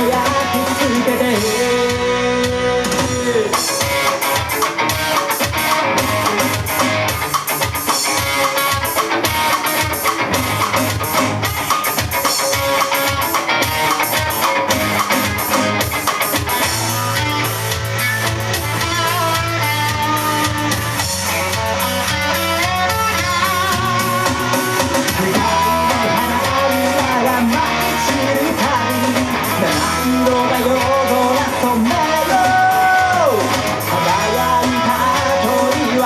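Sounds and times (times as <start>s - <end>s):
bass guitar: 0.0s - 36.0s
bending lead melody: 0.0s - 36.0s
drum kit: 0.0s - 36.0s
electric guitar: 0.0s - 36.0s.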